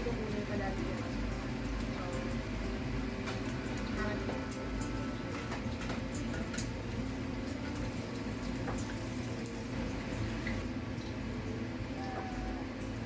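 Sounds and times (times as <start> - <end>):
egg sizzling in hot oil: 0.0 - 13.0
oil popping and crackling: 0.0 - 13.0.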